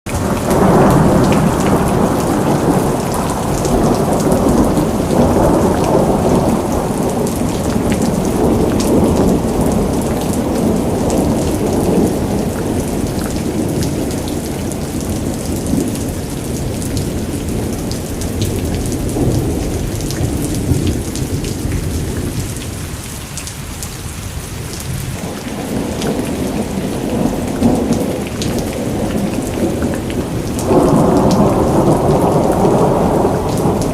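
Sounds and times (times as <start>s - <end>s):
steady rain: 0.1s - 33.9s
low rumbling thunder: 0.2s - 22.9s, 24.7s - 33.9s.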